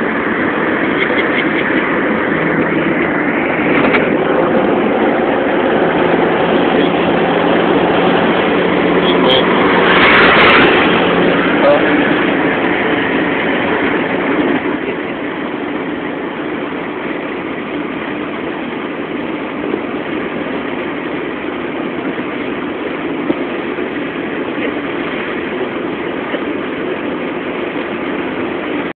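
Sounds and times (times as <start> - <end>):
steady engine hum: 0.0 - 28.9.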